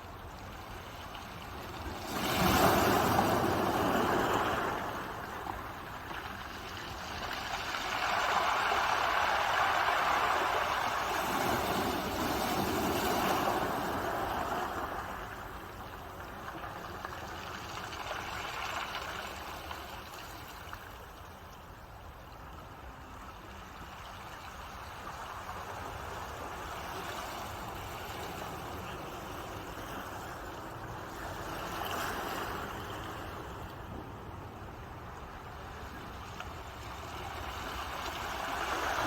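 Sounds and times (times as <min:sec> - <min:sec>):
ocean waves washing ashore: 0:00.0 - 0:21.6, 0:22.3 - 0:39.0.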